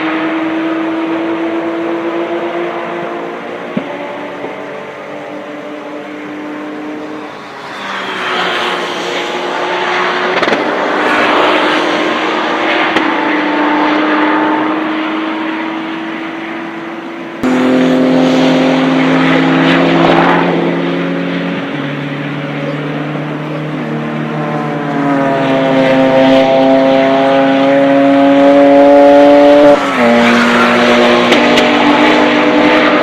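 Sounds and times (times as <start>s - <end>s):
race car engine at high revs: 0.0s - 33.0s.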